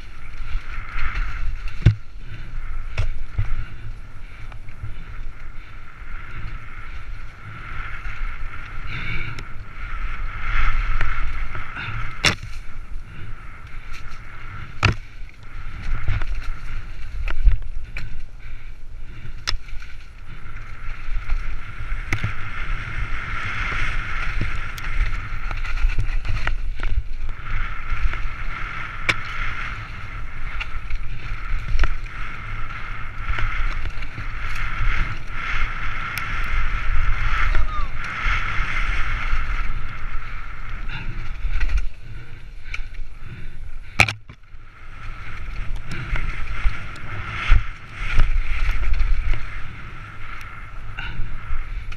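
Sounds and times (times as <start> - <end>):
bike knocking and rattling: 0.0 - 51.9
bike tyres rumbling on dirt: 0.0 - 51.9
wind on microphone: 0.0 - 51.9.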